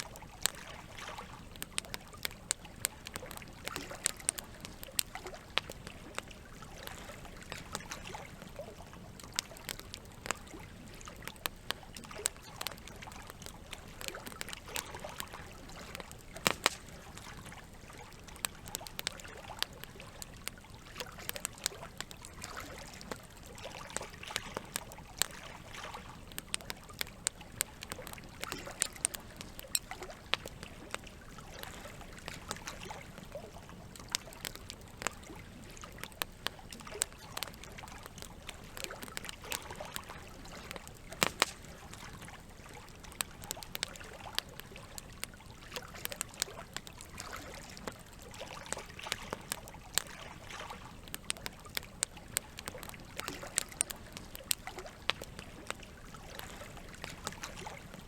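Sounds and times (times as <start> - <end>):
campfire crackling: 0.0 - 58.0
moving water: 0.0 - 58.0.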